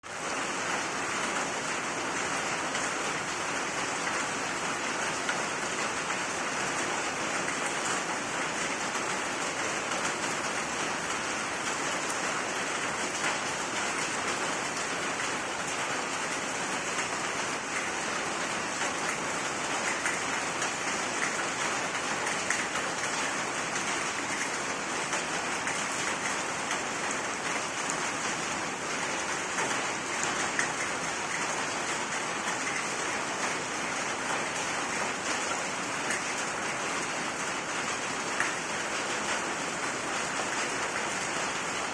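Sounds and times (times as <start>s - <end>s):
rain splashing on surfaces: 0.0s - 41.9s.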